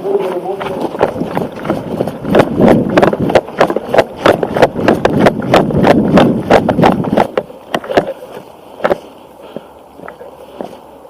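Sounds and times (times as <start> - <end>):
running footsteps on ground: 0.0 - 11.0.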